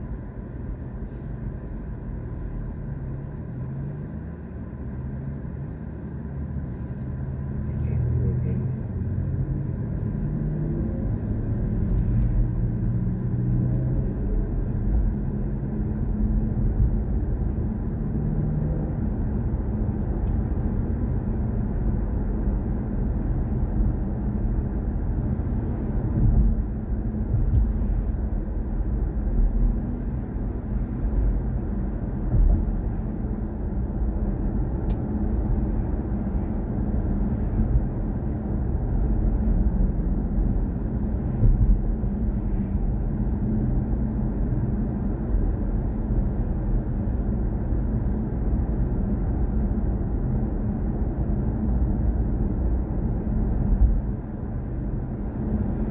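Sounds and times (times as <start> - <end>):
road and tyre rumble in car: 0.0 - 55.9.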